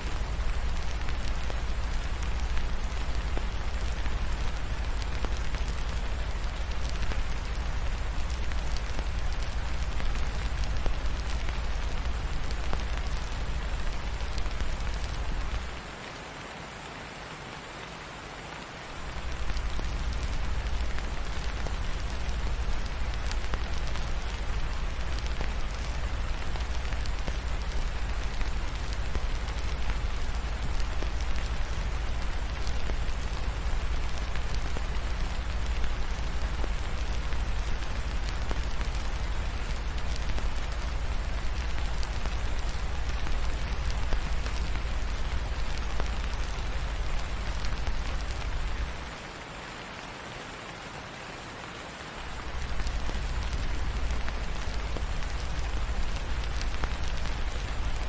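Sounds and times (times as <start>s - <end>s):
log fire crackling: 0.0s - 16.5s, 18.4s - 50.1s, 51.7s - 58.0s
heavy rain falling: 0.0s - 58.0s.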